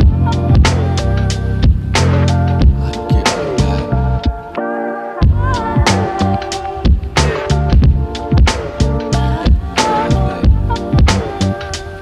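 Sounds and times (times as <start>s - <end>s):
background music with drum beat: 0.0s - 4.6s, 5.2s - 12.0s.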